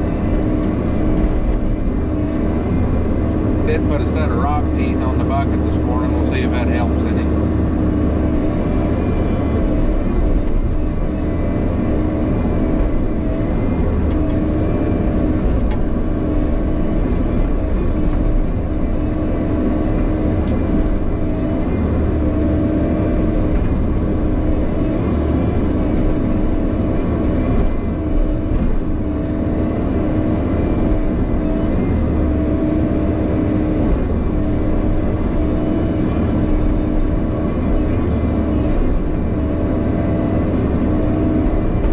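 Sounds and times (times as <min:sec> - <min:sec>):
excavator diesel engine: 0:00.0 - 0:41.9
hydraulics working: 0:00.0 - 0:41.9.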